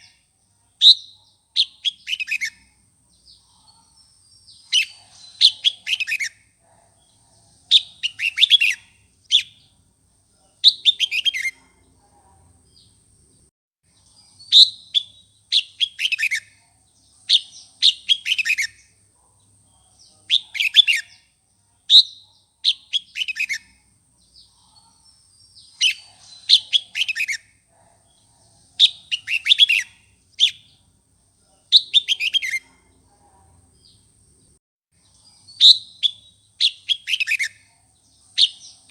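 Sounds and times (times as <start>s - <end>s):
bulbul singing: 0.0s - 9.8s, 10.4s - 11.9s, 13.9s - 34.4s, 35.0s - 38.9s.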